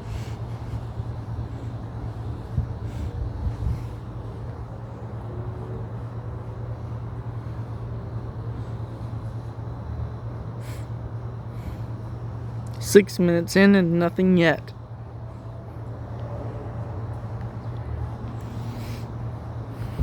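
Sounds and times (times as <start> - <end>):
constant rumble: 0.0 - 20.0
steady low hum: 0.0 - 20.0.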